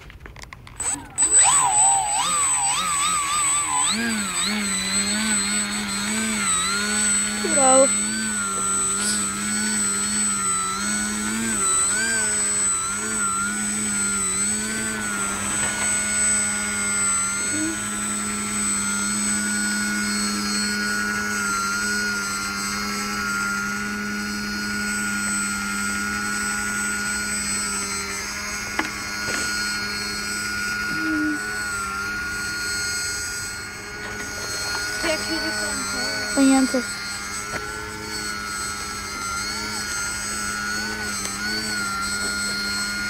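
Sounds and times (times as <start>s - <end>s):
model plane motor whine: 0.0s - 43.0s.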